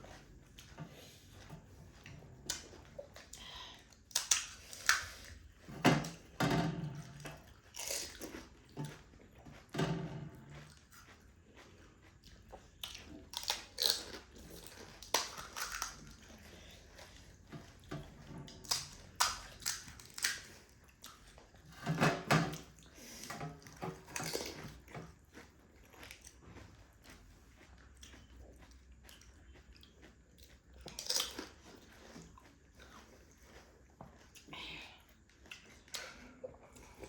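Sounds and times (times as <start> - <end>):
crunching and wet chewing: 0.0 - 21.8, 22.6 - 37.0.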